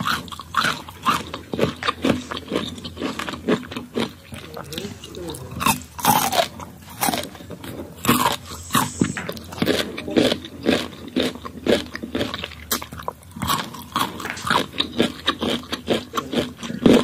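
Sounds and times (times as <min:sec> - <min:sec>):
chewing fruit: 0:00.0 - 0:17.0.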